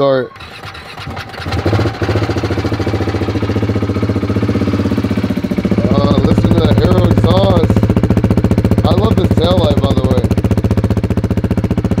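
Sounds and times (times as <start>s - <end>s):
motorcycle engine starting and idling: 0.0s - 12.0s.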